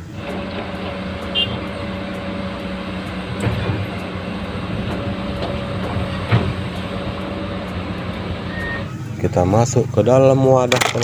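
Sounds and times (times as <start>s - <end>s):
low mechanical hum: 0.0s - 8.9s.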